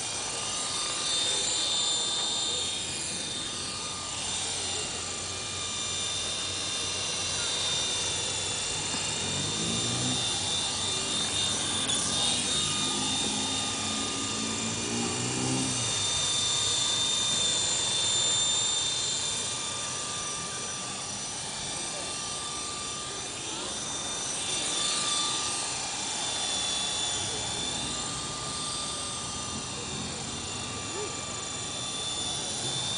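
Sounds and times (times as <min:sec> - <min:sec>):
electric motor whine: 0:00.0 - 0:32.9
helicopter rotor whir: 0:00.0 - 0:32.9.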